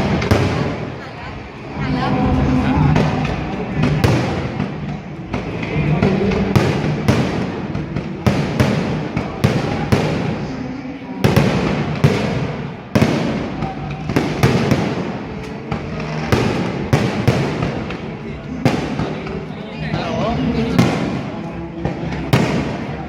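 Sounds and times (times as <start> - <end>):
fireworks bangs: 0.0 - 1.6, 2.2 - 23.0
crowd voices: 0.0 - 23.0.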